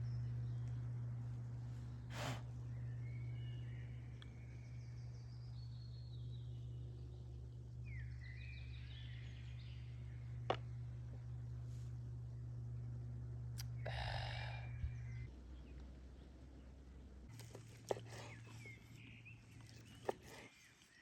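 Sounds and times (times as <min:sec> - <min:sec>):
small birds chirping: 0:00.0 - 0:11.3, 0:13.6 - 0:21.0
steady low hum: 0:00.0 - 0:21.0.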